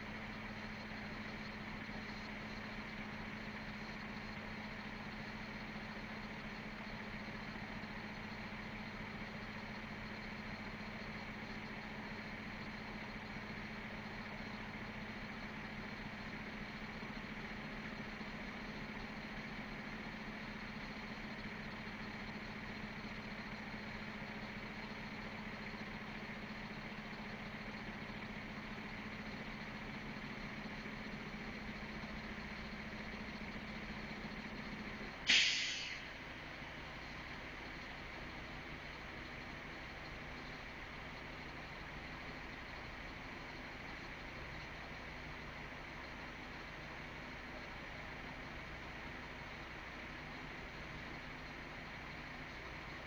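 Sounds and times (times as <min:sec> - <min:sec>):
heavy equipment engine idling: 0:00.0 - 0:53.0.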